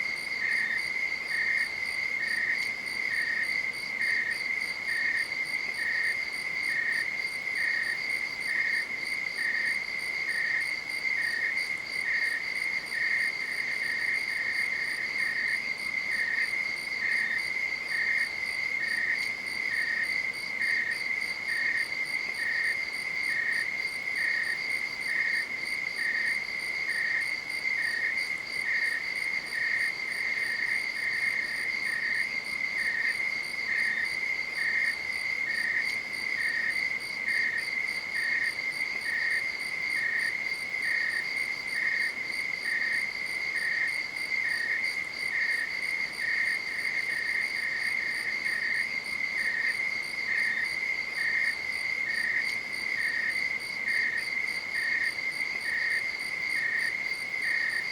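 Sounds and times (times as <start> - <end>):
insect chirping: 0.0 - 57.9.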